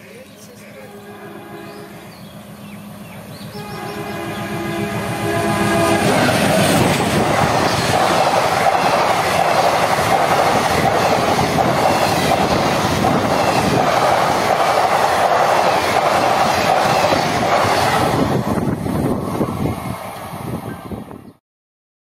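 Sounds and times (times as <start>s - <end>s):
train wheels rumbling on rails: 0.1s - 21.4s.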